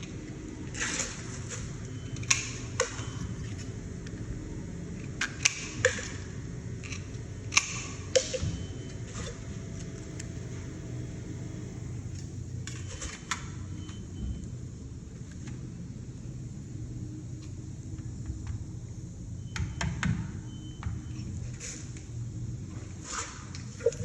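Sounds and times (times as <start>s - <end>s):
steady low hum: 0.0s - 19.6s, 20.4s - 24.0s.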